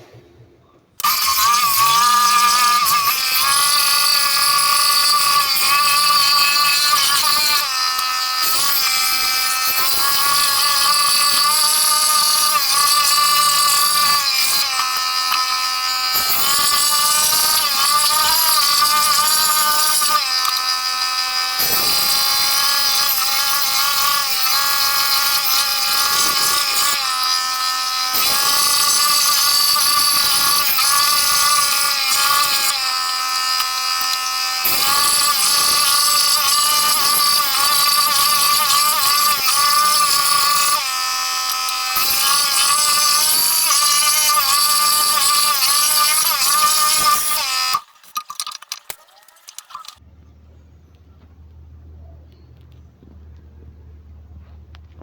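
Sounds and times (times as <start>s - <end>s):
jigsaw cutting wood: 1.0s - 48.2s.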